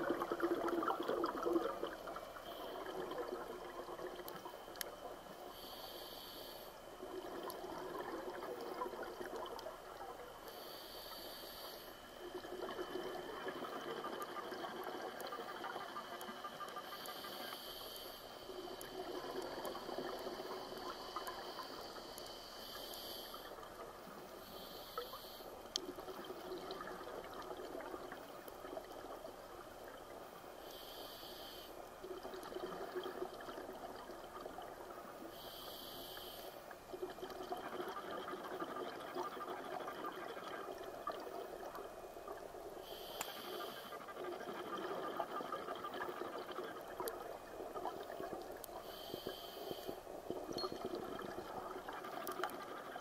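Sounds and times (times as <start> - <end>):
underwater bubbling and gurgling: 0.0 - 53.0.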